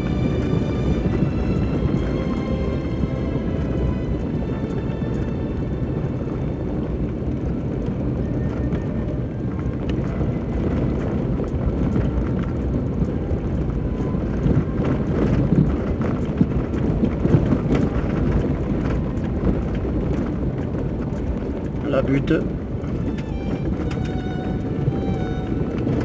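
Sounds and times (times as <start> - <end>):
off-road vehicle engine at low revs: 0.0 - 26.0
vehicle body rattling over bumps: 0.0 - 26.0.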